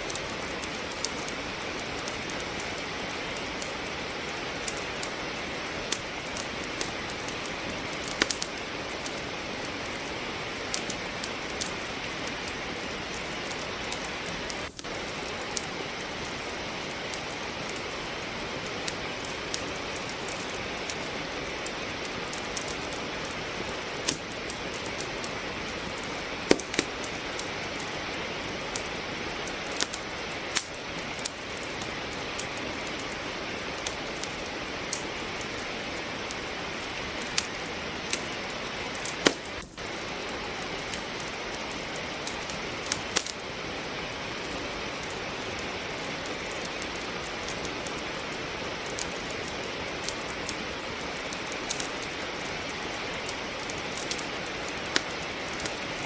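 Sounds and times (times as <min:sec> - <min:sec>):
logs crackling in fireplace: 0:00.0 - 0:56.0
rain hiss: 0:00.0 - 0:56.0.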